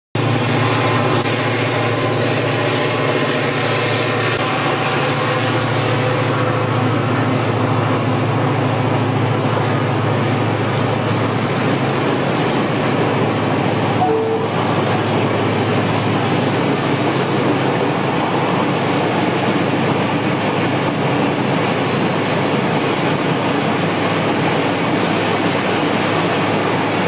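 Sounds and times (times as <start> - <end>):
diesel locomotive droning: 0.2 - 27.0
freight train rolling: 0.2 - 27.0.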